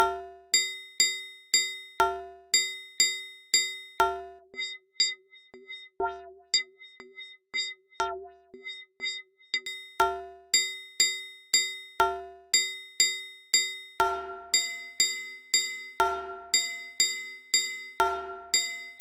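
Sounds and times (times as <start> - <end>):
electronic metronome ticking: 0.0 - 19.0.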